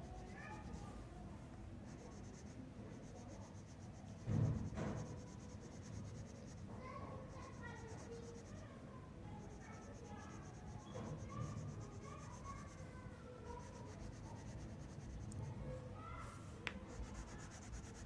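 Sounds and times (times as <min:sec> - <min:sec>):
pencil scratching on paper: 0:00.0 - 0:01.0, 0:01.8 - 0:08.7, 0:09.3 - 0:15.8, 0:16.7 - 0:18.0.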